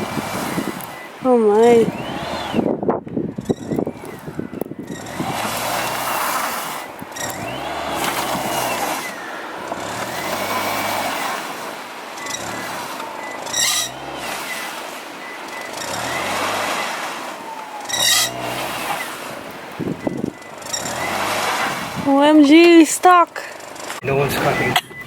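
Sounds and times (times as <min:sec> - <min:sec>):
wheels spinning in snow whine: 0:00.0 - 0:24.8
car engine revving: 0:00.0 - 0:25.0.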